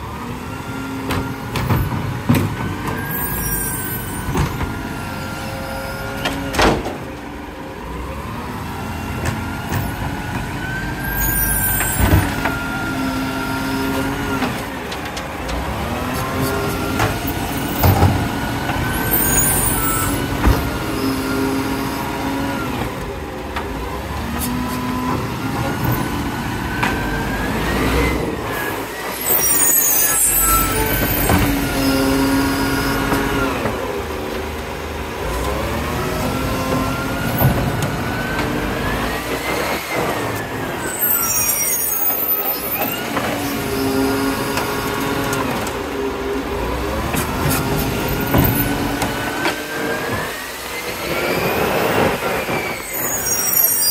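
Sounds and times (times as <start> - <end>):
garbage truck engine revving: 0.0 - 53.9.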